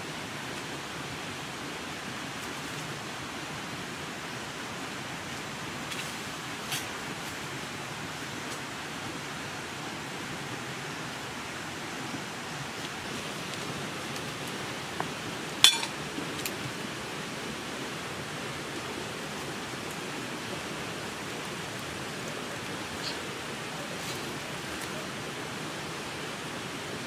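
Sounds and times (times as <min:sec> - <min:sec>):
steady rushing hiss: 0:00.0 - 0:27.0.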